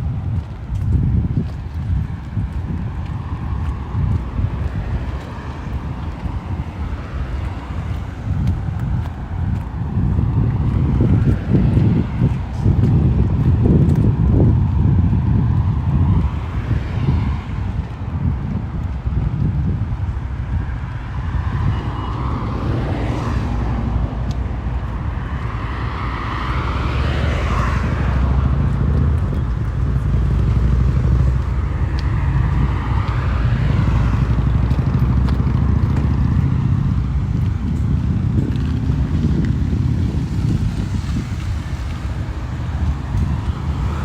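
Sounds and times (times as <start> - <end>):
road traffic passing: 0.0 - 44.0
wind on microphone: 0.0 - 44.0.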